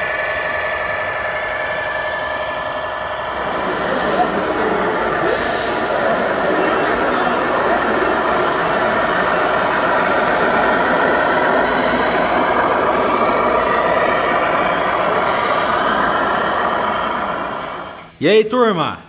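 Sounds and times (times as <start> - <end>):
hall chatter: 0.0 - 18.1
simulated truck engine sound: 0.0 - 18.2.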